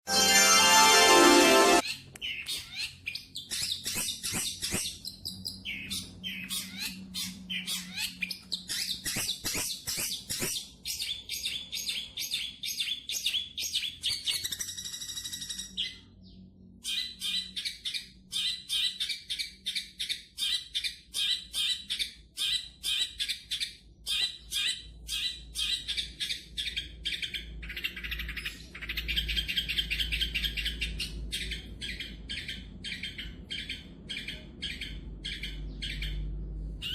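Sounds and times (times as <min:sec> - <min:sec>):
bird chattering song: 0:01.8 - 0:36.9.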